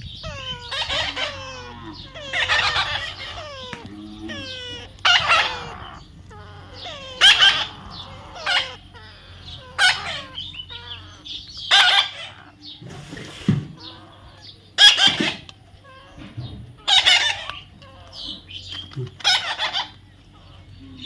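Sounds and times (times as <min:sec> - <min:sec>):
parrot squawking: 0:00.0 - 0:20.7.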